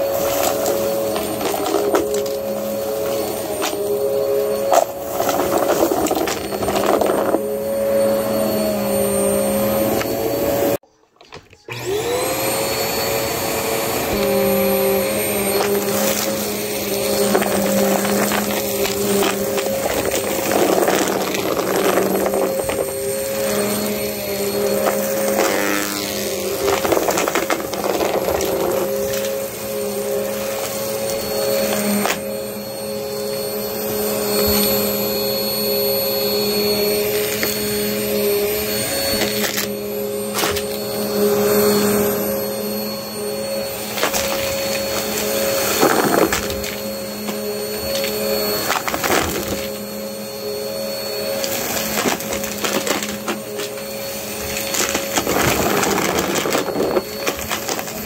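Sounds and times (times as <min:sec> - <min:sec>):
vacuum cleaner running: 0:00.0 - 0:10.8, 0:11.6 - 0:58.0.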